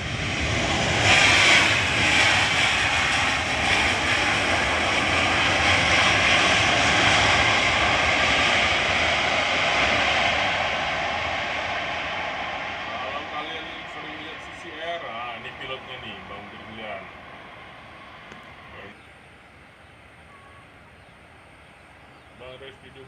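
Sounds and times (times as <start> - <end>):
aircraft engines passing: 0.0 - 23.0.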